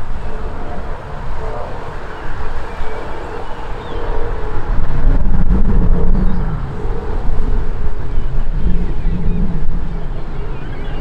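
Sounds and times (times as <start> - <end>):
jet engine noise: 0.0 - 11.0
wind buffeting on microphone: 0.0 - 11.0.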